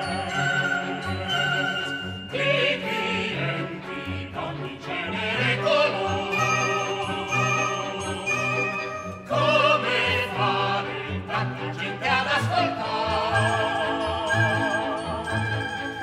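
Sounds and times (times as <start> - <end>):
opera singers with vibrato: 0.0 - 16.0
orchestral accompaniment: 0.0 - 16.0.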